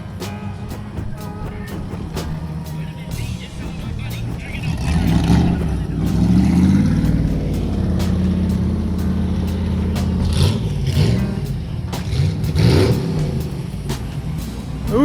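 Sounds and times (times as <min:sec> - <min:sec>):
engine running and revving: 0:00.0 - 0:15.0.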